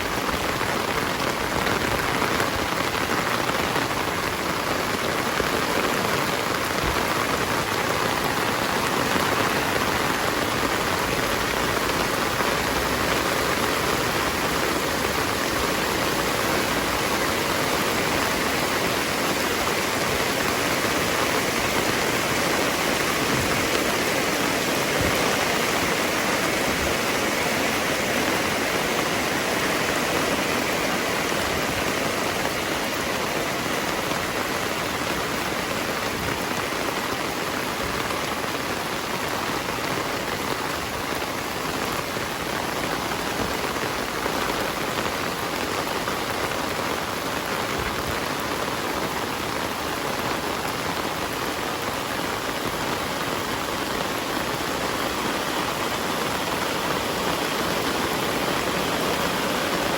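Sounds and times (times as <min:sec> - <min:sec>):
heavy rain splashing: 0:00.0 - 0:59.9.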